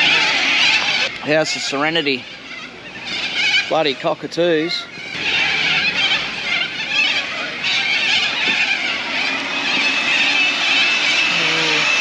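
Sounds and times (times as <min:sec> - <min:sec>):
cockatoos screeching: 0:00.0 - 0:12.0.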